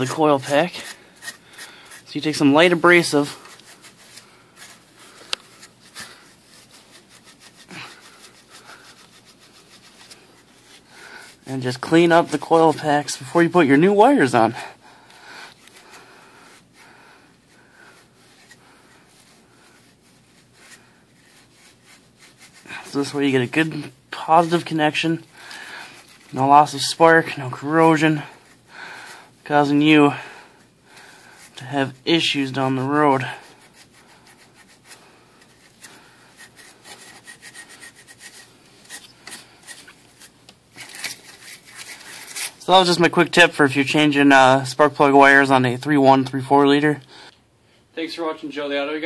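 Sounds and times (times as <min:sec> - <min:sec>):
emery cloth scraping metal: 0:00.0 - 0:14.7, 0:15.6 - 0:44.2.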